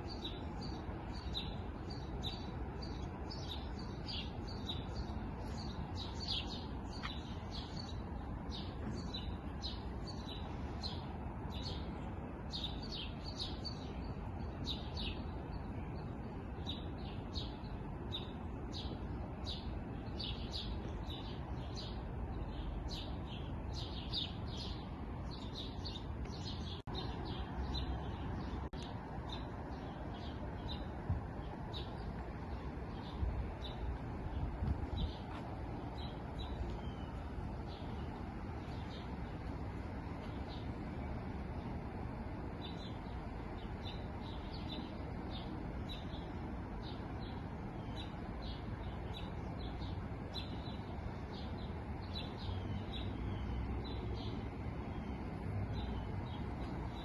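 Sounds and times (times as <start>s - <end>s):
low background noise: 0.0s - 57.0s
small songbirds chirping: 0.0s - 57.0s.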